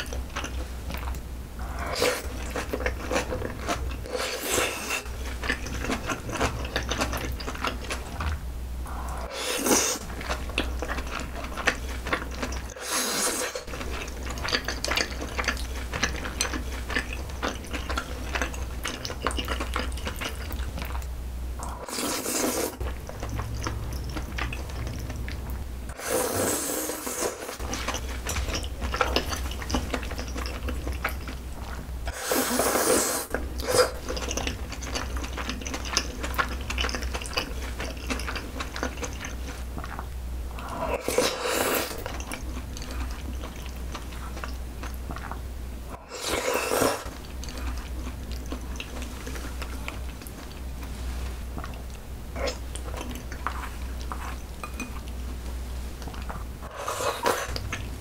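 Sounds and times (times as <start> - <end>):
chewing and slurping noodles: 0.0 - 55.4
steady low hum: 0.0 - 58.0.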